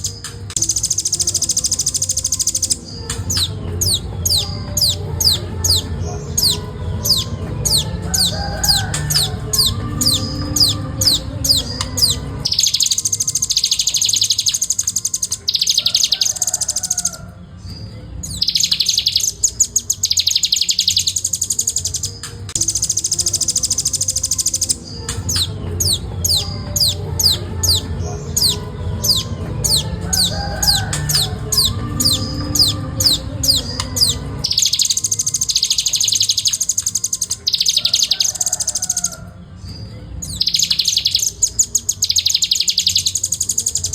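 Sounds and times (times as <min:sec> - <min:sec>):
bird chattering and trilling: 0:00.0 - 0:43.9.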